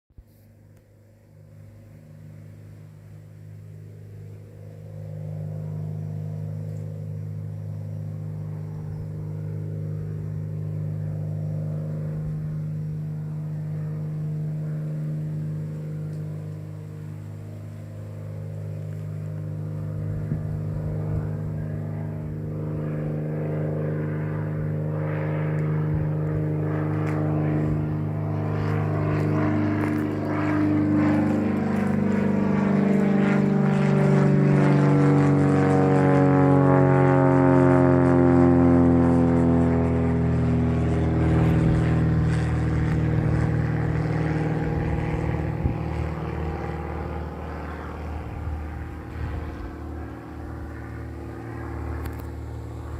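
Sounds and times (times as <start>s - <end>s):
propeller airplane engine droning: 0.1s - 52.9s.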